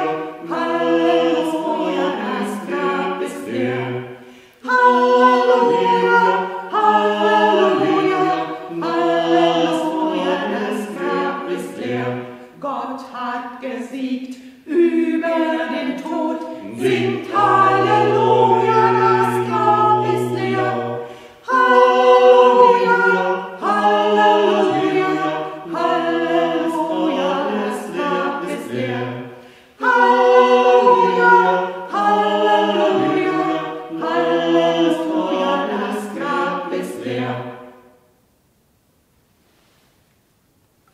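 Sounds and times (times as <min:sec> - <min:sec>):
choir singing a cappella: 0:00.0 - 0:38.0.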